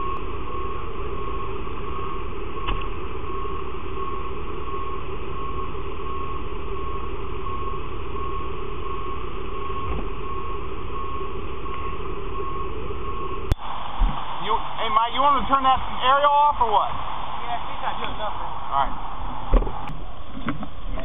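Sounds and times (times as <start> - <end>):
diesel engine running at high revs: 0.0 - 21.0.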